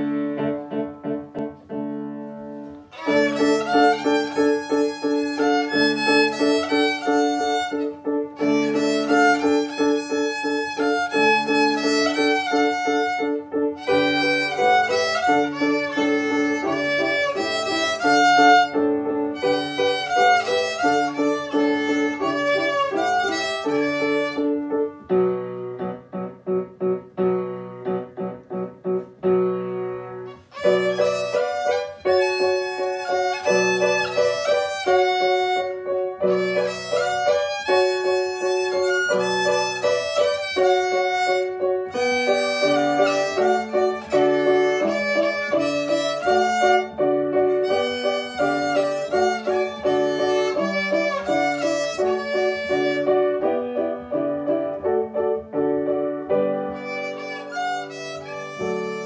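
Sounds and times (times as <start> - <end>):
piano accompaniment: 0.0 - 59.0
violin folk melody: 2.3 - 26.1, 29.2 - 59.0.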